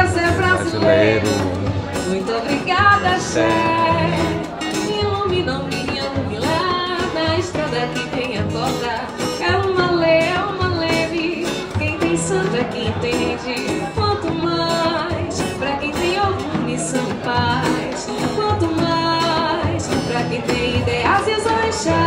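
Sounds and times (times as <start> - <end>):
band with percussion beat: 0.0 - 22.0
woman singing: 0.0 - 22.0.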